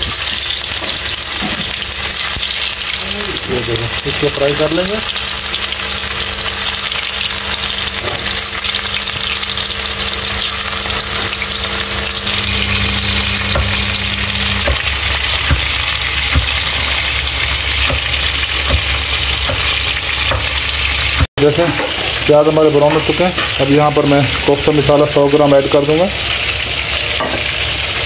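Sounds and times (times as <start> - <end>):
meatballs sizzling in oil: 0.0 - 28.0.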